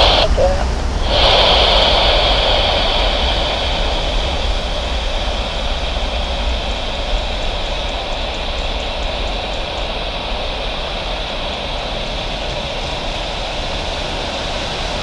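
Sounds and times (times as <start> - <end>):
jet engine roar with whine: 0.0 - 15.0.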